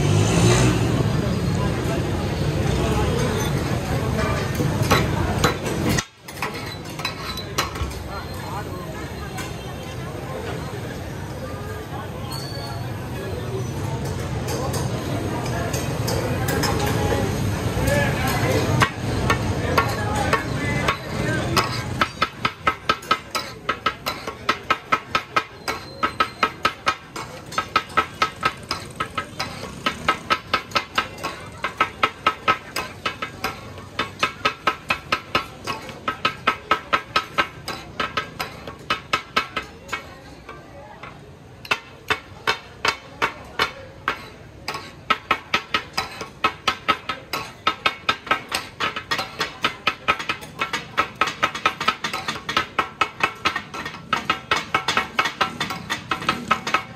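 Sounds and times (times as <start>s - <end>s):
metal blades clanging on griddle: 3.2s - 8.1s, 14.0s - 56.9s.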